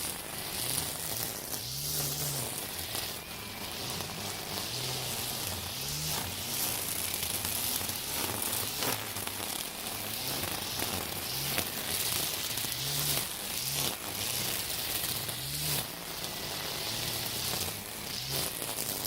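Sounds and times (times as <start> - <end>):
string trimmer cutting weeds: 0.0 - 19.0.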